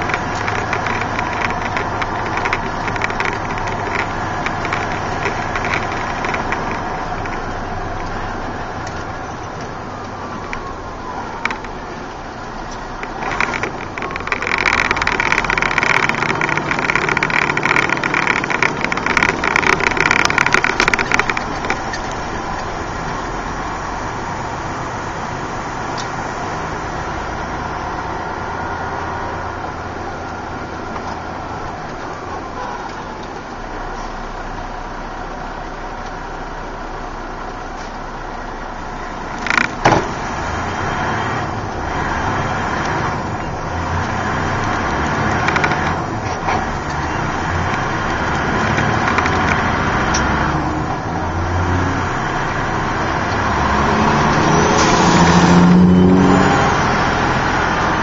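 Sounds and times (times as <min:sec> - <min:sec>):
truck engine from inside cab: 0:00.0 - 0:58.0.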